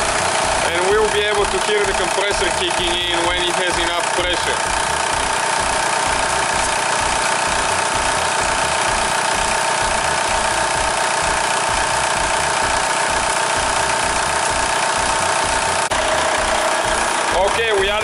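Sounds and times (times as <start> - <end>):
car engine idling: 0.0 - 18.0
steady whine: 0.0 - 18.0.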